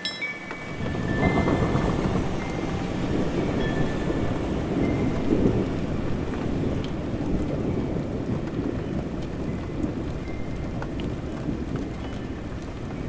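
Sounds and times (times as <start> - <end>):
steady rain: 0.4 - 13.0
distant thunder rumble: 0.5 - 13.0.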